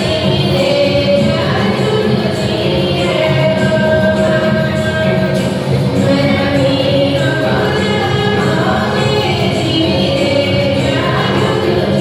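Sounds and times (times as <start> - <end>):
folk dance music: 0.0 - 12.0.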